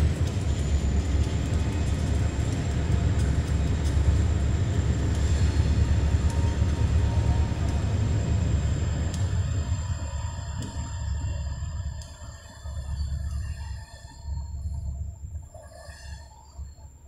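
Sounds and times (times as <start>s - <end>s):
train rumbling over bridge: 0.0s - 17.0s.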